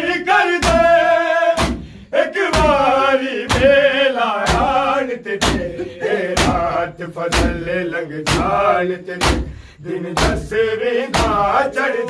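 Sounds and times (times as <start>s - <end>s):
men singing in unison: 0.0s - 12.0s.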